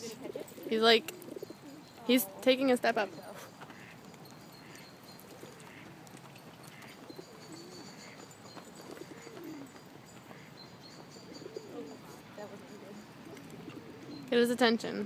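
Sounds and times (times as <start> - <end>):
pigeons cooing: 0.0 - 14.8.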